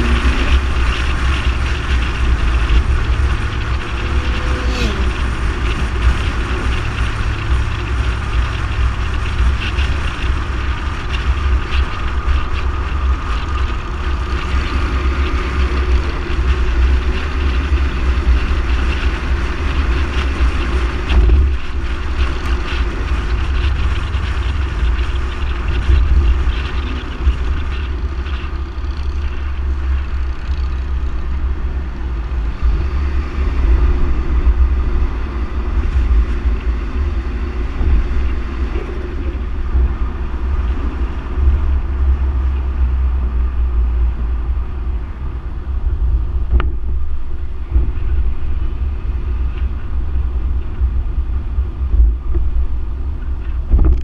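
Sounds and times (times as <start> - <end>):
car engine and tyre noise: 0.0 - 54.0
wind buffeting microphone: 0.0 - 54.0.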